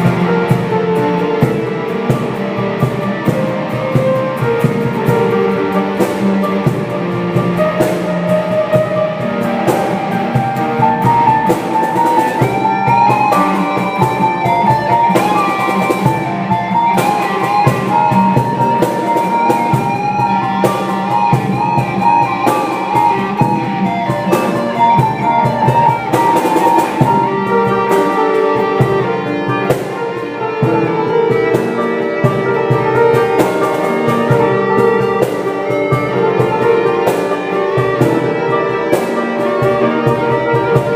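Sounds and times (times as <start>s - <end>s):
drum kit hits: 0.0s - 40.9s
electric guitar melody: 0.0s - 40.9s.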